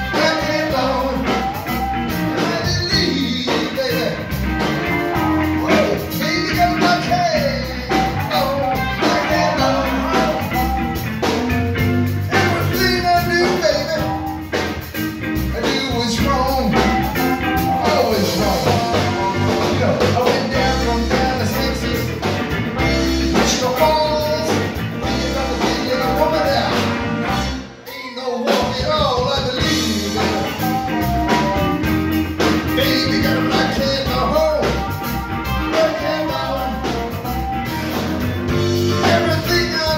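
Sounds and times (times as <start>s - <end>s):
person singing: 0.0s - 11.0s, 12.2s - 14.4s, 15.5s - 27.0s, 27.8s - 31.6s, 32.6s - 37.8s, 38.8s - 39.9s
blues-rock band playing: 0.0s - 39.9s.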